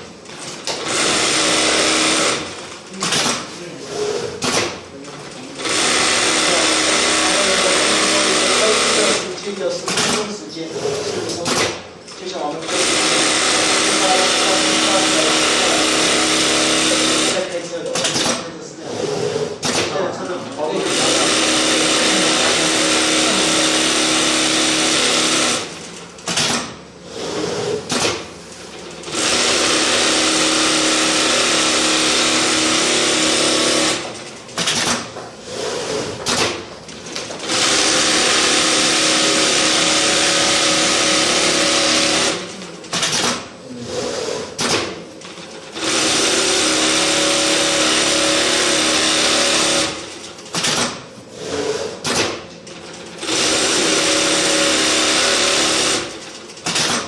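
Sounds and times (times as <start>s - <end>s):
sewing machine stitching: 0.0s - 57.0s.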